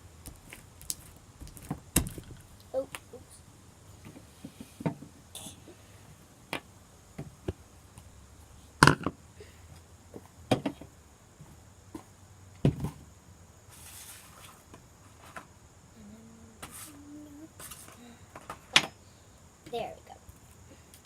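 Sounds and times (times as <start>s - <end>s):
soft hiss: 0.0s - 21.0s.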